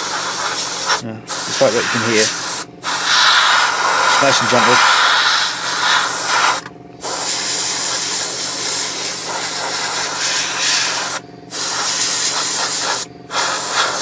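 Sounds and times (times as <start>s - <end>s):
airbrush spraying hiss: 0.0s - 14.0s
steady low hum: 0.0s - 14.0s.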